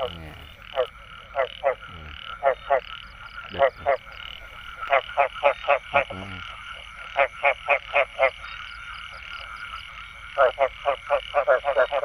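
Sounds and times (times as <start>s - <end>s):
frogs croaking: 0.0s - 12.0s.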